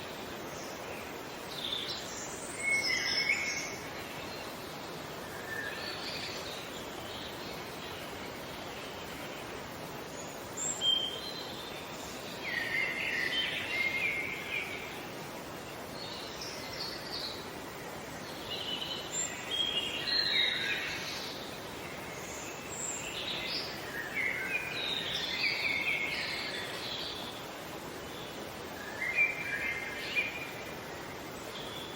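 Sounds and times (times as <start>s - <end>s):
outdoor ambience hiss: 0.0s - 31.9s
songbirds chirping and trilling: 0.0s - 31.9s.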